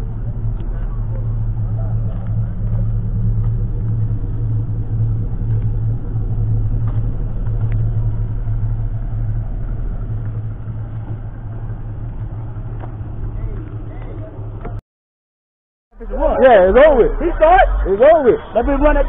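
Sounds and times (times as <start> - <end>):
engine idling: 0.0 - 14.8, 16.0 - 19.0.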